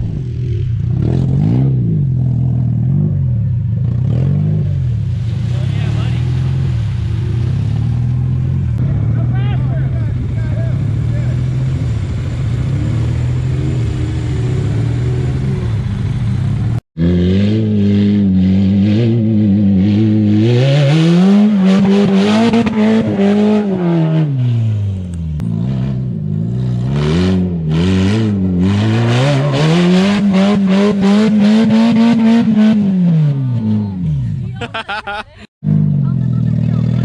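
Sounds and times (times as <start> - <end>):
engine revving: 0.0 - 34.4.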